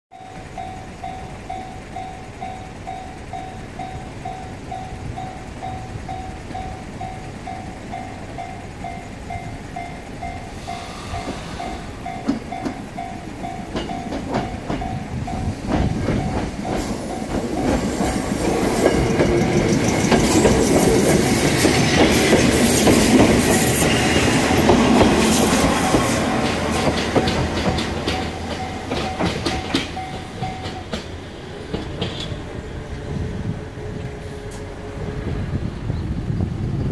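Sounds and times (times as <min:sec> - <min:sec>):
train wheels clattering: 0:00.4 - 0:32.8.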